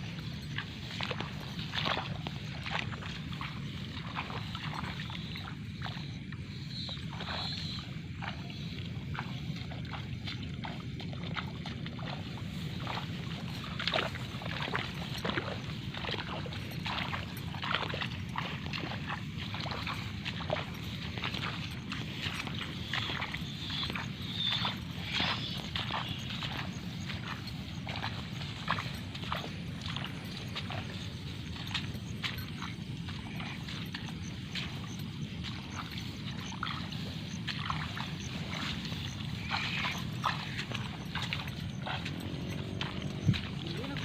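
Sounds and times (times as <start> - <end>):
footsteps squelching through mud: 0.0 - 44.0
steady low hum: 0.0 - 44.0.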